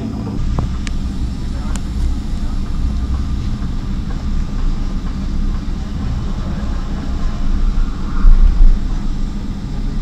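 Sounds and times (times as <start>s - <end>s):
aircraft cabin engine rumble: 0.0s - 10.0s.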